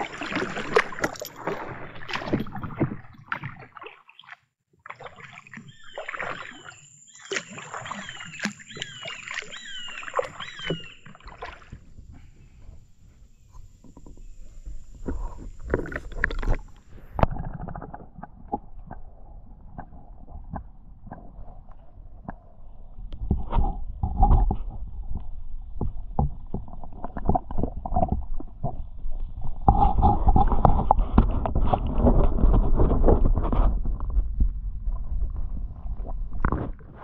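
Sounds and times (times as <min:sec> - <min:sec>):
paddle splashing in water: 0:00.0 - 0:22.4, 0:23.2 - 0:37.0.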